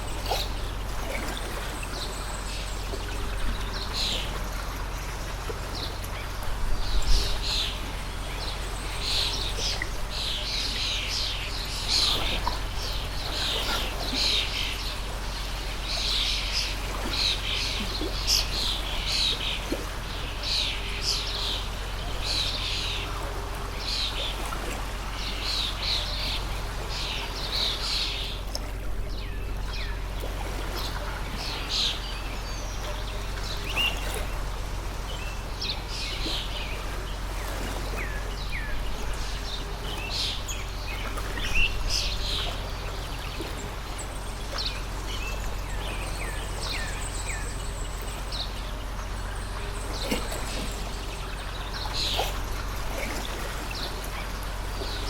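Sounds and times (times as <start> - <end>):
small birds chirping: 0.0 - 24.4, 25.0 - 55.0
water stream flowing: 0.0 - 55.0.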